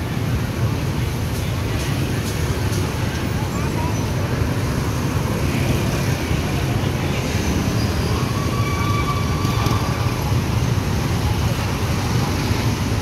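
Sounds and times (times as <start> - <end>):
motorcycle engines in traffic: 0.0 - 13.0.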